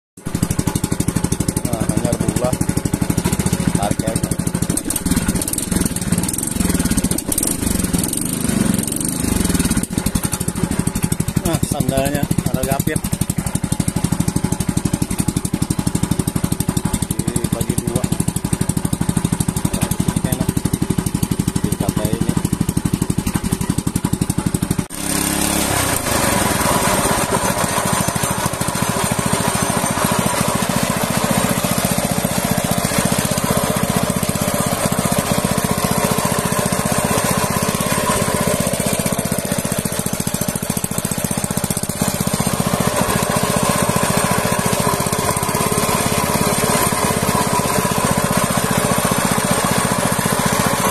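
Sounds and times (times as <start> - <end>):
small boat engine running: 0.2 - 50.9.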